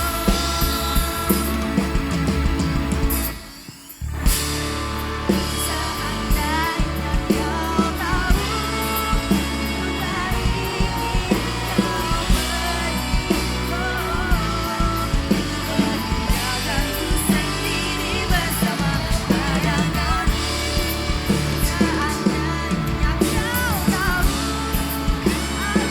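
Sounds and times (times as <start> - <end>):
person singing: 0.0 - 2.5, 4.9 - 25.9
drum kit: 0.0 - 25.9
electric guitar: 0.0 - 25.9.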